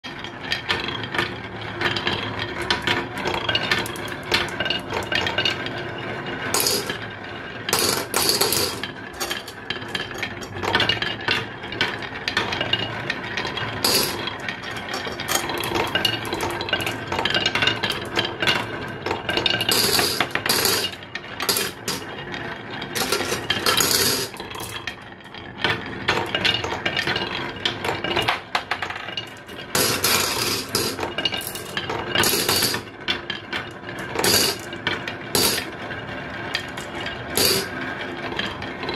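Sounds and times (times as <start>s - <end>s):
marbles rolling on wooden track: 0.0s - 38.9s
marbles clicking and clinking: 0.1s - 5.8s, 6.4s - 35.7s, 36.5s - 38.9s.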